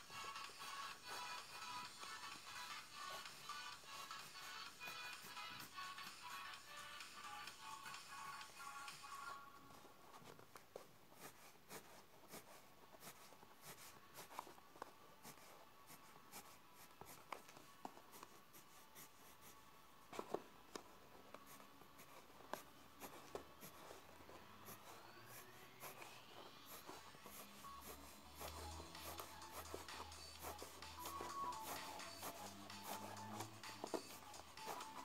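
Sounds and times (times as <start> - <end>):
pencil scratching on paper: 0.0 - 9.2, 10.8 - 35.0.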